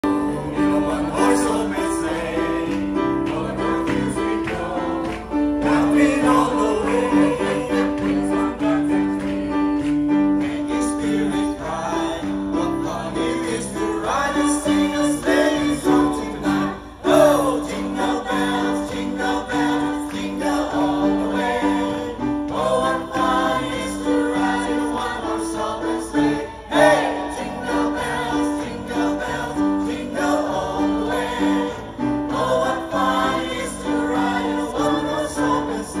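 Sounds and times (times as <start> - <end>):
group singing a carol: 0.0 - 36.0.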